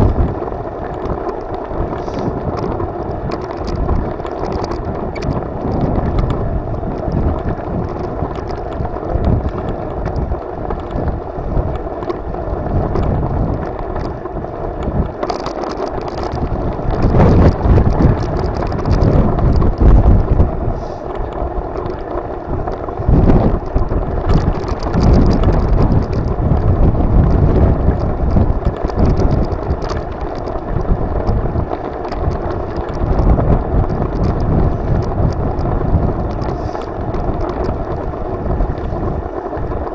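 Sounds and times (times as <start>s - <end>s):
light clicks and rattles: 0.0s - 39.9s
wind buffeting microphone: 0.0s - 39.9s.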